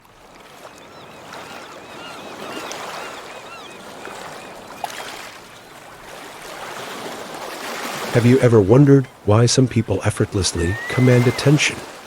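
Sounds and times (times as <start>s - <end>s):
sea waves lapping: 0.0s - 12.0s.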